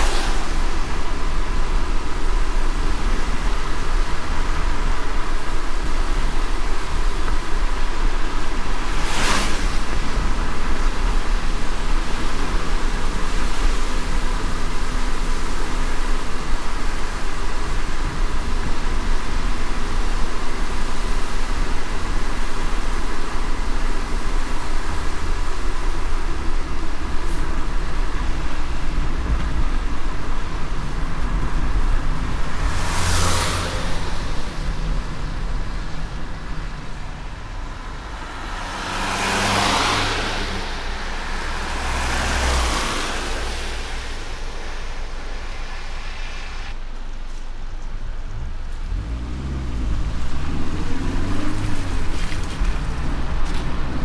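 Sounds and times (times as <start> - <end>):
road and tyre noise: 0.0 - 54.0
vehicles swishing past: 0.0 - 54.0.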